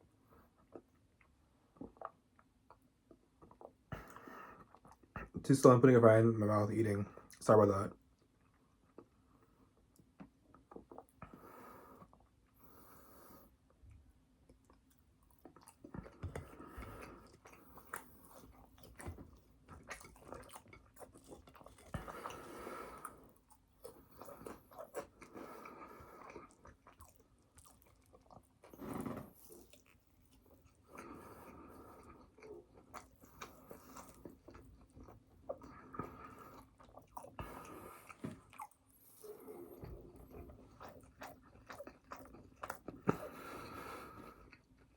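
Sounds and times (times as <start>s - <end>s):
person chewing food: 0.4s - 5.3s, 9.8s - 44.9s.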